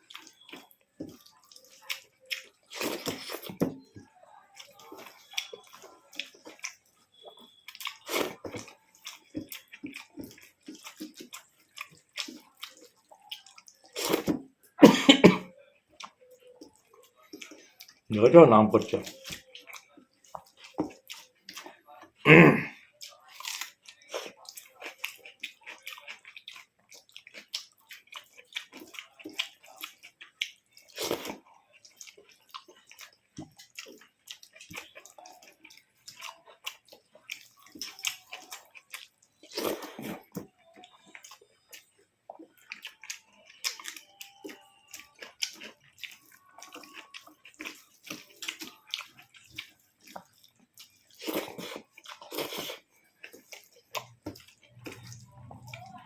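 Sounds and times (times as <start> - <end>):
wet chewing: 0.0 - 56.0.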